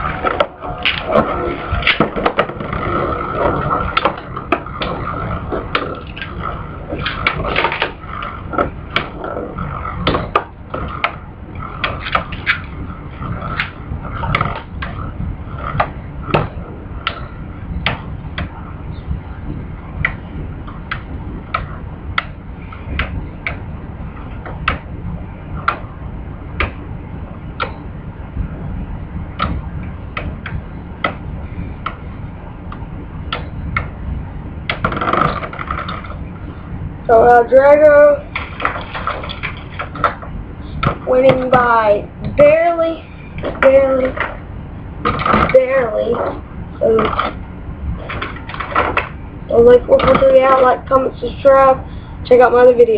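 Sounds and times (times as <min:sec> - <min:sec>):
scraping hum: 0:00.0 - 0:52.9
thin whine: 0:00.0 - 0:52.9.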